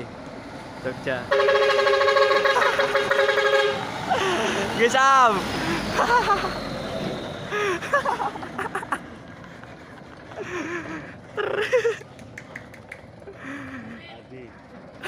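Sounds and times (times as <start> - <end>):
truck engine pulling away: 0.0 - 15.0.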